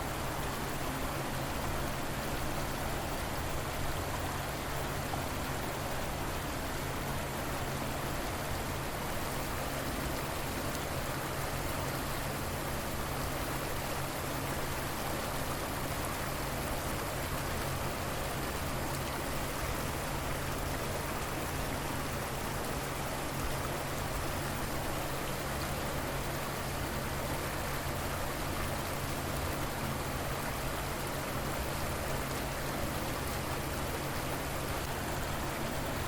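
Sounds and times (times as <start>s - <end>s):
river water flowing: 0.0s - 36.0s.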